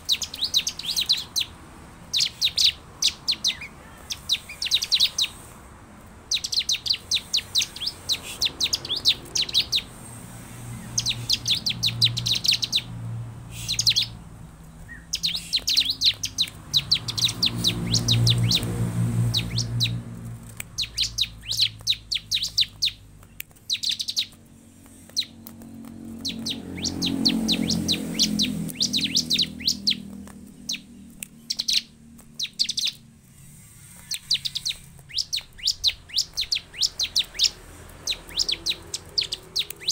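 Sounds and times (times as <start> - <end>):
bird singing rapid high trills: 0.0 - 5.6, 6.2 - 39.9.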